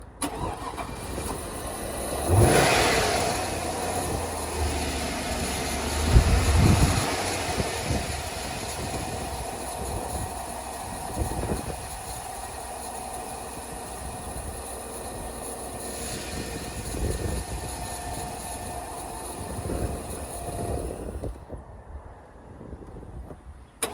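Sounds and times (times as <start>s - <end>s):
engine starting and idling: 0.0s - 21.4s.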